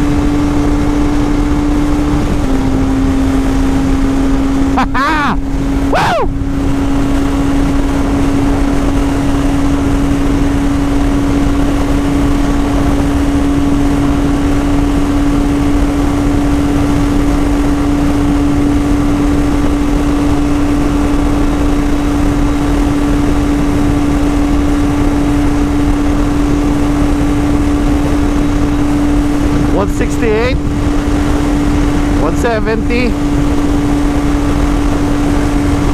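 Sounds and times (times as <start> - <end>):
motorcycle engine at high rpm: 0.0 - 35.9
wind rush on microphone: 0.0 - 35.9.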